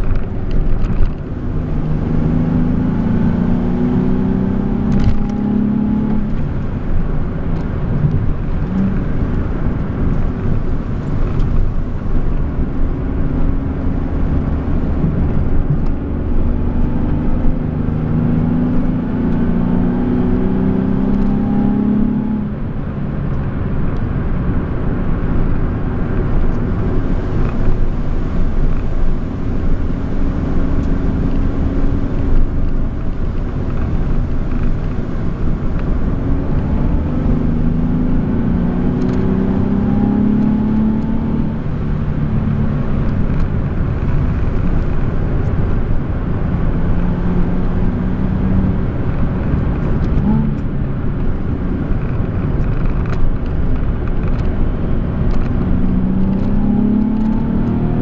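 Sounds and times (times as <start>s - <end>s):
car engine accelerating: 0.0s - 58.0s
road and tyre rumble: 0.0s - 58.0s.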